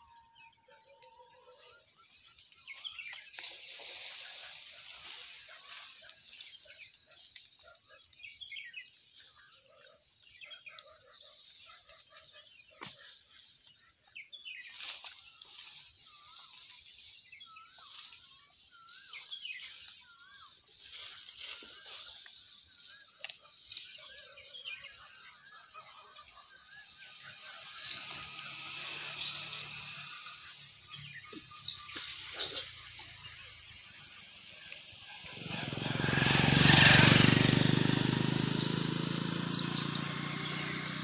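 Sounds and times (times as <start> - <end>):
birds chirping and calling: 0.0 - 41.0.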